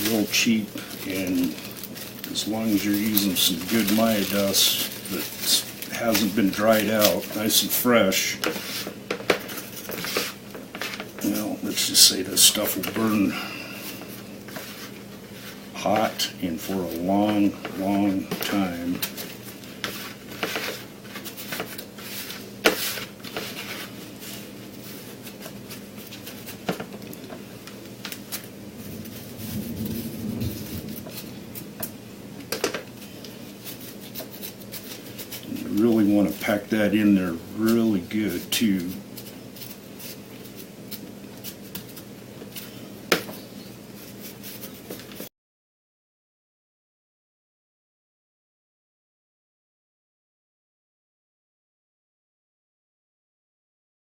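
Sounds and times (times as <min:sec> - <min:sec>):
wood shavings rustling and scraping: 0:00.0 - 0:43.4
faint steady hum: 0:00.0 - 0:45.3.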